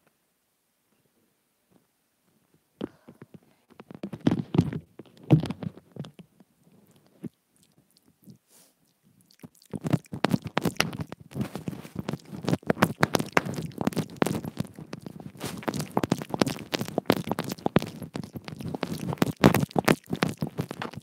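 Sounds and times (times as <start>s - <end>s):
teeth nibbling on earphone microphone: 3.2s - 21.0s.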